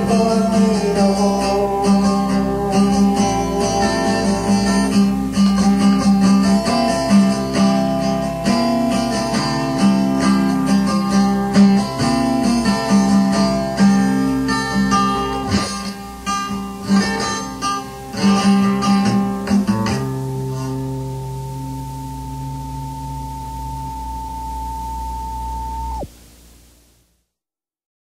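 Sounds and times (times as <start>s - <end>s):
strummed acoustic guitar: 0.0s - 24.0s
steady held tone: 0.0s - 26.9s.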